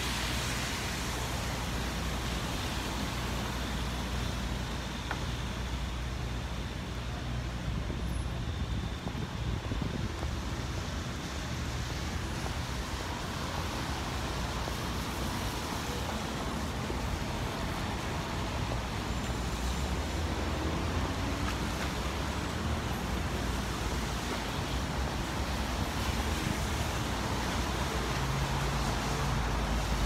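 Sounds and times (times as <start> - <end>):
cars passing on wet road: 0.0 - 7.6, 8.6 - 30.0
low traffic rumble: 0.0 - 30.0.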